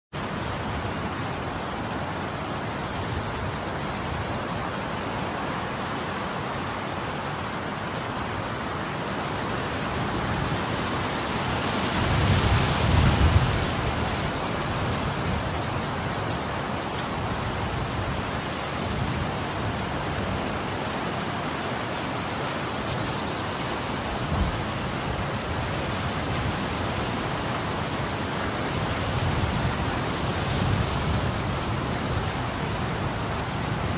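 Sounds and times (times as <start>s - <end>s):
wind and driving snow hissing: 0.2s - 33.9s
wind rumble on microphone: 0.2s - 33.9s.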